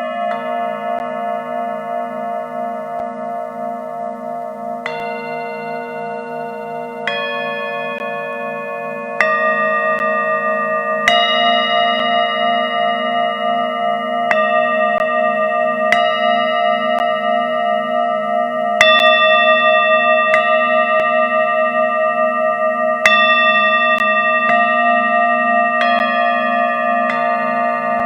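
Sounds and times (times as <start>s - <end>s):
singing bowl strikes: 0.0s - 28.0s
singing bowls ringing: 0.0s - 28.0s.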